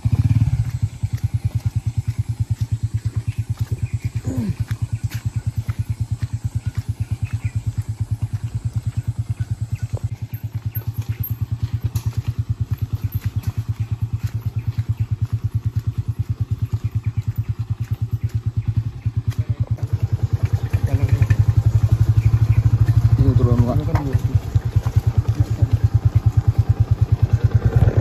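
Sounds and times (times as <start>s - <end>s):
motorcycle engine at low revs: 0.0s - 28.0s.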